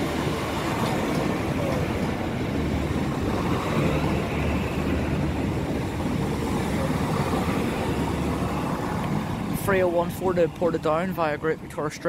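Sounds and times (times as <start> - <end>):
diesel train passing: 0.0 - 12.0.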